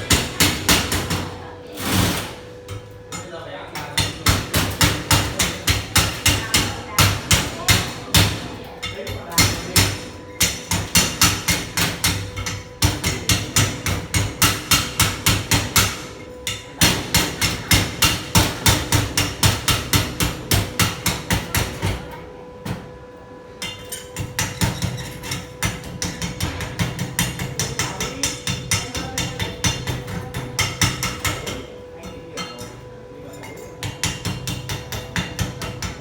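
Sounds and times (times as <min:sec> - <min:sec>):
hammer striking metal: 0:00.0 - 0:22.0, 0:23.6 - 0:32.8, 0:33.4 - 0:36.0.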